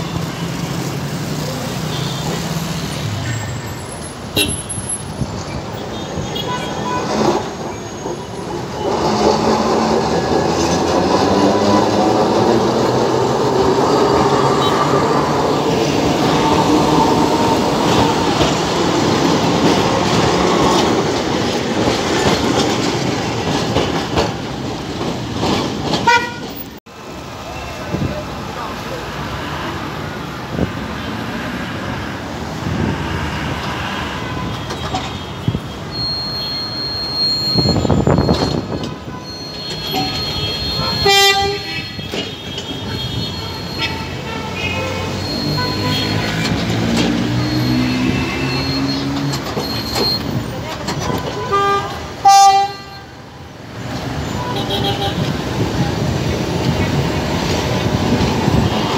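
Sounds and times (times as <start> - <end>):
tram wheels rumbling on rails: 0.0 - 58.9.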